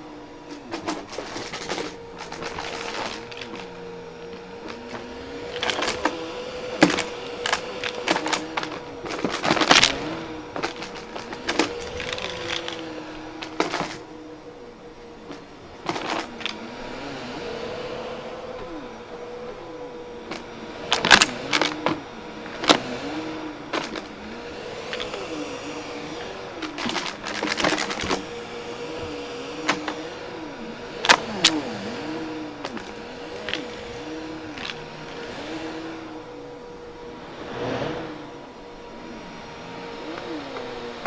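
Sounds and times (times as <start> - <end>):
debris clicking in vacuum: 0.0 - 41.0
vacuum cleaner running on carpet: 0.0 - 41.0.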